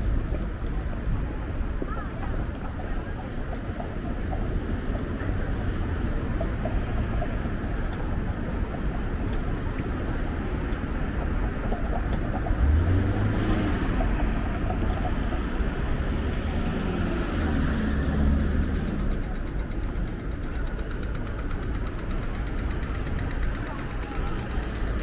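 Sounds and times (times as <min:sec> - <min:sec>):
traffic going by: 0:00.0 - 0:25.0.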